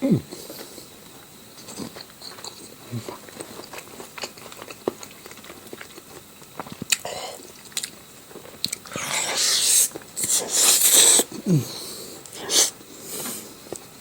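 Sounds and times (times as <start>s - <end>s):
person chewing food: 1.6s - 13.8s.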